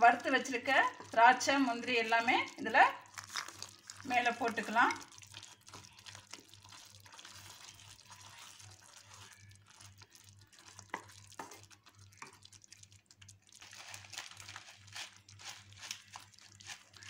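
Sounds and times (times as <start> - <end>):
wet stirring and sizzling: 0.0 - 17.0.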